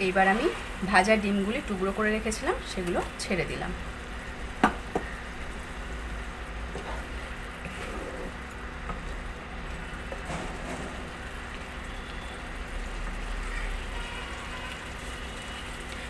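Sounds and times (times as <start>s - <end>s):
gravy simmering and sizzling: 0.0s - 16.0s.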